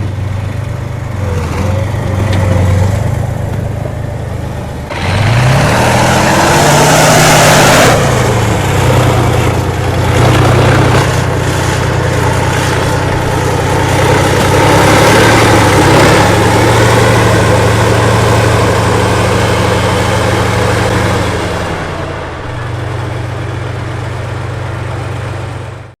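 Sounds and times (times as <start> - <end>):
tank diesel engine revving: 0.0 - 25.9.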